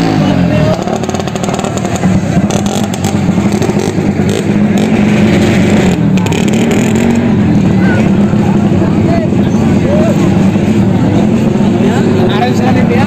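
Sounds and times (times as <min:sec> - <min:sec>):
racing engine revving high: 0:00.0 - 0:13.0.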